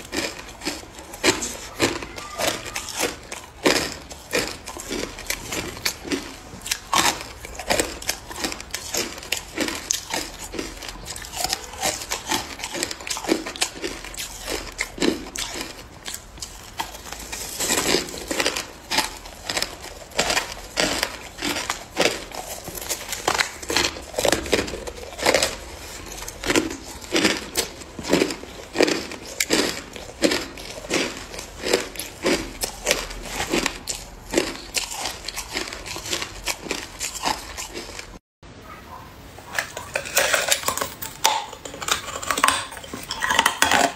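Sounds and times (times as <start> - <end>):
ice crunching between teeth: 0.0 - 38.2, 39.5 - 43.9.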